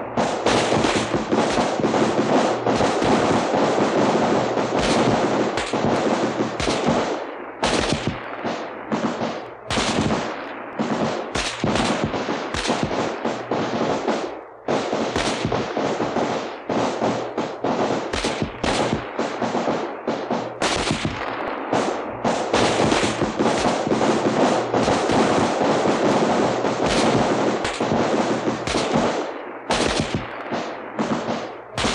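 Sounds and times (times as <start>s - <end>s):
rifles firing with echo: 0.0s - 31.9s.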